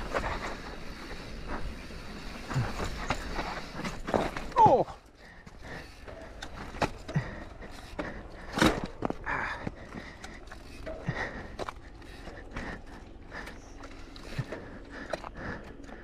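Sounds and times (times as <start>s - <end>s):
bike clicks and rattles: 0.0s - 16.0s.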